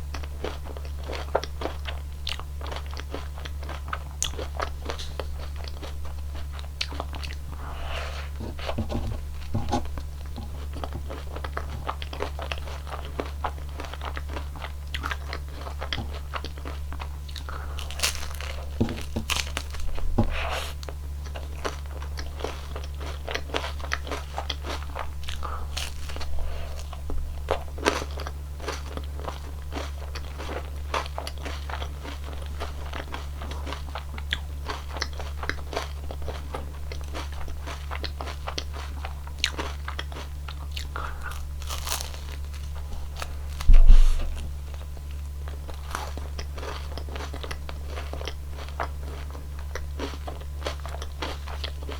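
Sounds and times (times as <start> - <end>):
crunching ice cream cone: 0.0 - 51.9
steady low hum: 0.0 - 51.9.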